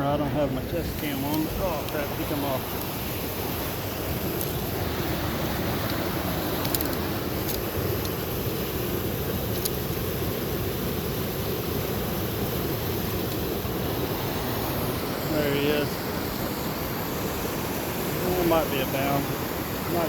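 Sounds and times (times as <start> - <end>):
river water rushing over dam: 0.2 - 20.0.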